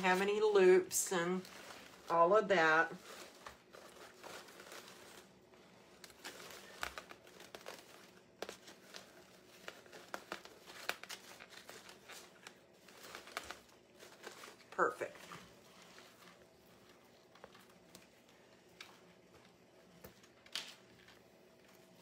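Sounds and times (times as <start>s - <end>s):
ribbon rustling and crinkling: 0.0s - 22.0s.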